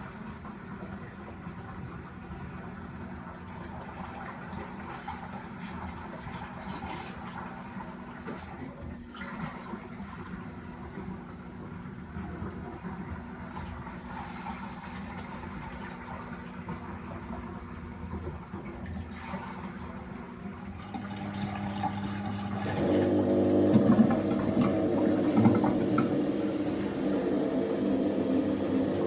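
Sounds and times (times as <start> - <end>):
washing machine motor whirring hum: 0.0 - 29.0
water rushing through washing machine: 0.0 - 29.0.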